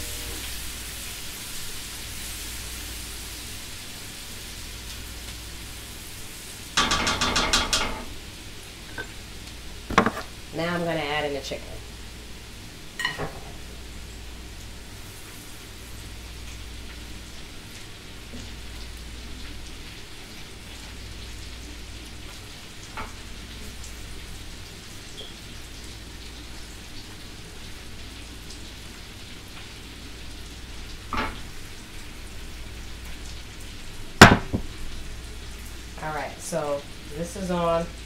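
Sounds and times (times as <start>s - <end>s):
chicken sizzling in frying pan: 0.0s - 38.0s.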